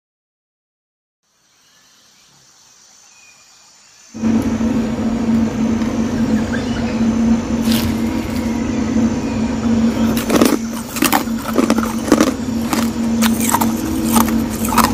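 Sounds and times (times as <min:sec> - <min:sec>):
mechanical hum: 0:01.3 - 0:14.9.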